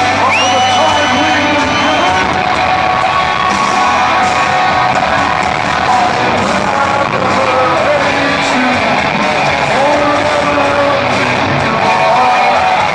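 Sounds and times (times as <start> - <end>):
distorted guitars: 0.0 - 12.9
drums: 0.0 - 12.9
heavy metal band playing live: 0.0 - 12.9.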